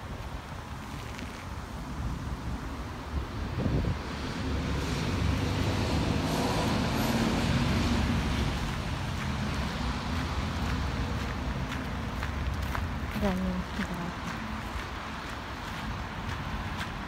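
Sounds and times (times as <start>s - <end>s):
road traffic noise: 0.0s - 17.0s
vehicle engine hum: 0.0s - 17.0s.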